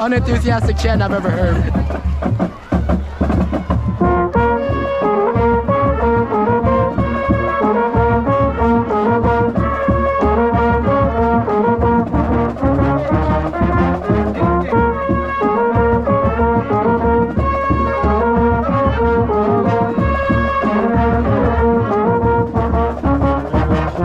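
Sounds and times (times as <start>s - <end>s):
brass instruments punched notes: 0.0s - 24.0s
steady drum beat: 0.0s - 24.0s.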